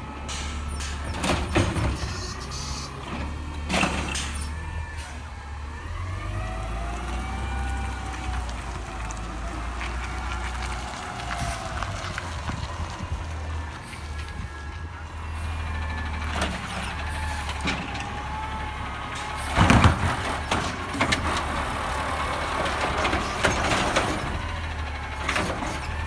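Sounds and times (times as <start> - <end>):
garbage truck diesel engine: 0.0 - 26.0.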